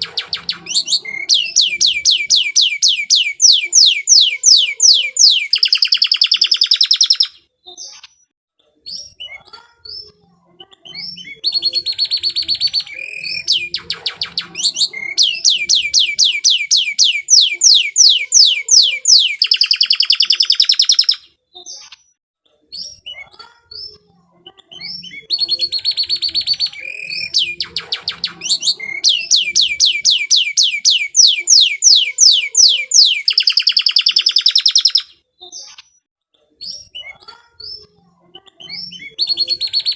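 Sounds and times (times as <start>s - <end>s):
canary singing trills: 0.0s - 8.2s, 8.9s - 22.1s, 22.8s - 36.0s, 36.6s - 39.9s.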